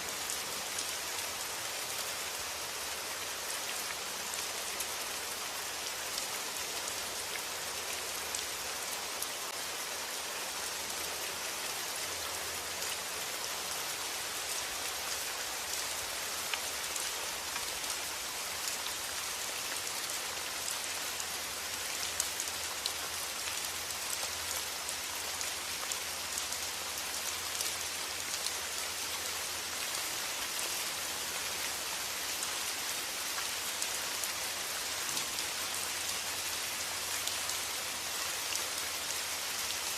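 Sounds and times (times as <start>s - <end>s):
steady rain with ticking drops: 0.0s - 39.9s.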